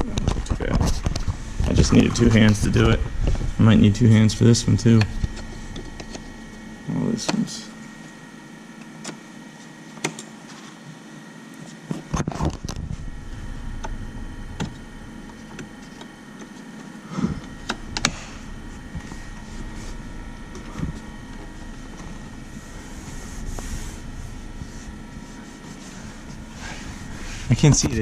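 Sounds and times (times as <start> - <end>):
low steady rumble: 0.0 - 8.8, 12.5 - 28.0.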